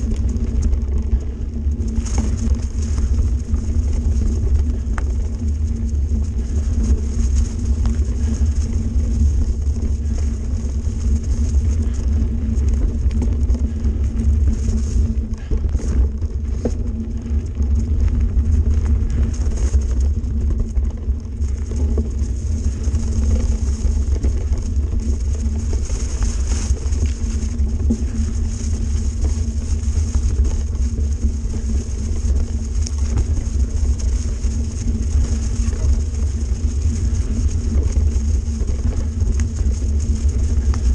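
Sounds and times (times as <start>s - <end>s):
bike knocks and rattles: 0.0s - 34.2s
wind and trail rumble on microphone: 0.0s - 40.9s.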